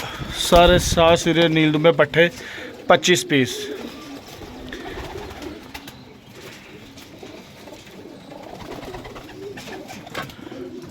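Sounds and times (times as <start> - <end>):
pigeons cooing: 0.0 - 10.9.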